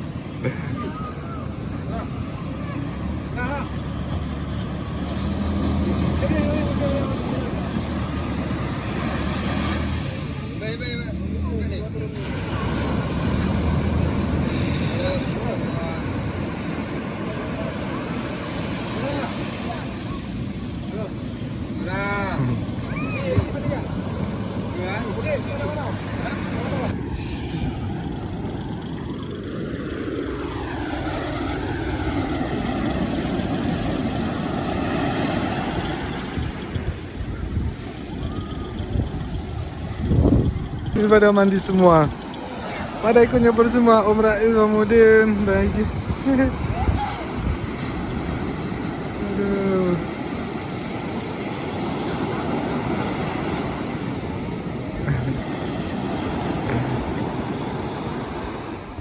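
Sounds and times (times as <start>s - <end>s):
motorboat engine running: 0.0s - 59.0s
surf: 0.0s - 59.0s
wind: 0.0s - 59.0s.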